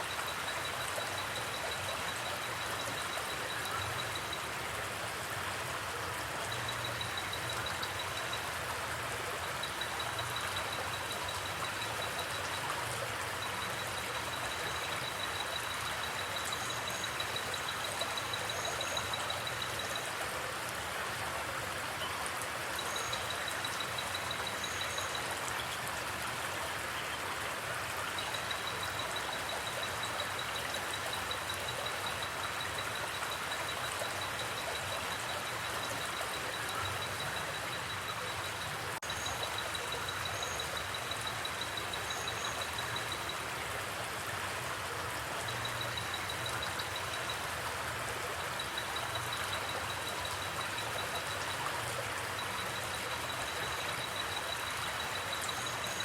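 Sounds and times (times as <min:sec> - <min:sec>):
creek flowing: 0:00.0 - 0:56.0.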